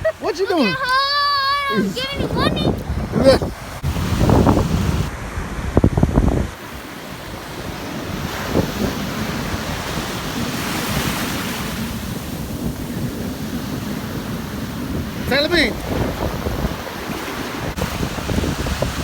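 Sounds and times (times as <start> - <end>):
ocean surf washing on beach: 0.0 - 19.0
wind buffeting microphone: 0.0 - 19.0.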